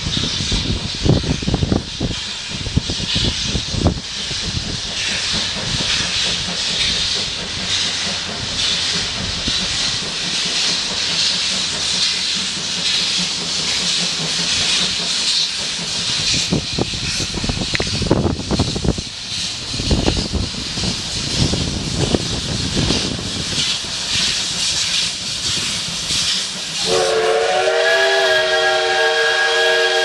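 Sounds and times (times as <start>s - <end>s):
steam locomotive venting steam: 0.0s - 30.0s.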